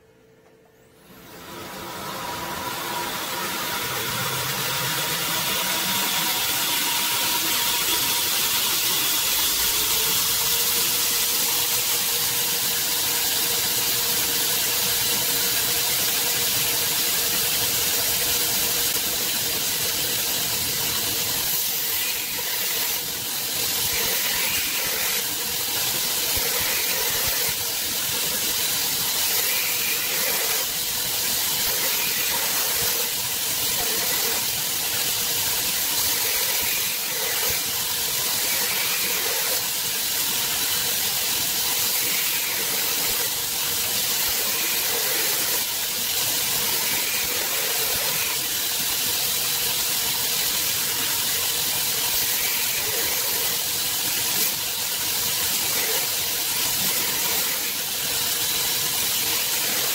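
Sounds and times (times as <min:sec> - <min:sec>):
belt grinder grinding steel: 0:02.7 - 0:59.9.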